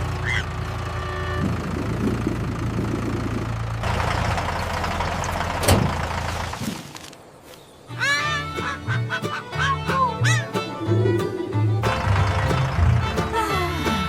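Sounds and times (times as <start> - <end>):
tractor engine idling: 0.0 - 7.2, 8.3 - 14.0.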